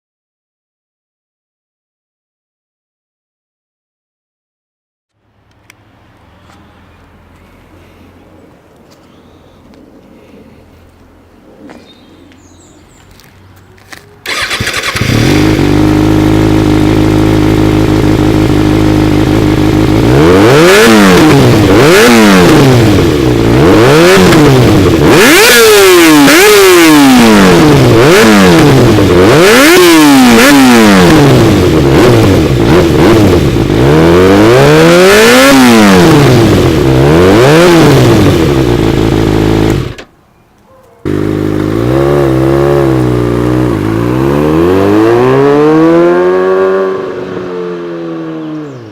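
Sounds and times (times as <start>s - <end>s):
motorcycle engine idling and revving: 5.2s - 48.9s.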